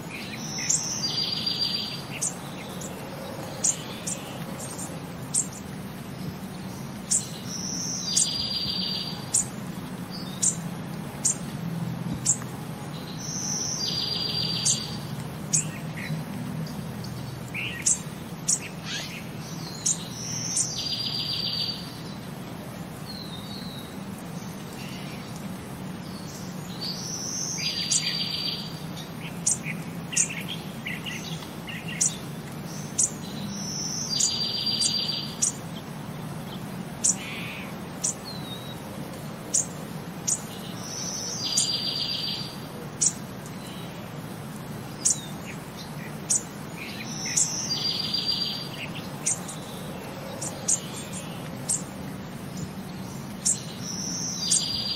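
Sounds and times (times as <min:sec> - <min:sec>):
bird chirp and buzzy trill: 0:00.0 - 0:10.6, 0:11.2 - 0:11.5, 0:12.2 - 0:22.3, 0:26.0 - 0:38.8, 0:39.5 - 0:54.9.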